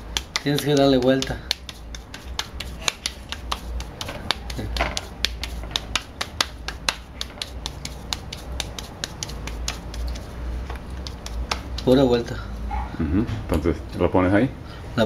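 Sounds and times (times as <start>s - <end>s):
hands patting tortilla dough: 0.0s - 12.3s.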